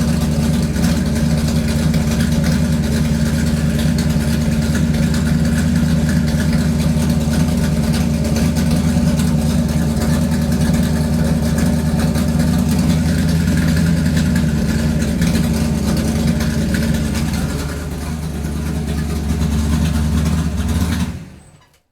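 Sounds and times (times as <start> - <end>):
car engine running: 0.0 - 21.7.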